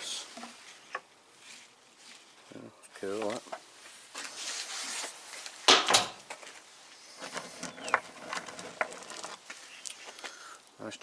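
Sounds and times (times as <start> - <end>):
rustle: 0.0 - 11.0.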